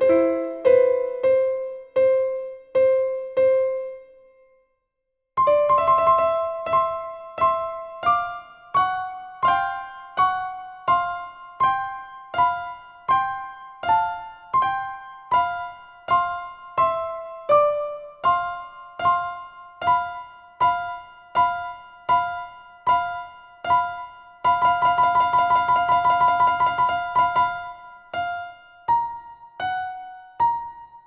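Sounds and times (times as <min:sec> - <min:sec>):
keyboard chords: 0:00.0 - 0:04.6, 0:05.4 - 0:31.0.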